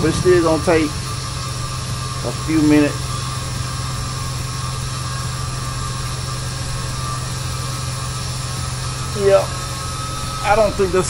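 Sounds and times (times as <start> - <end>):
air hissing: 0.0 - 11.0
diesel truck engine idling: 0.0 - 11.0.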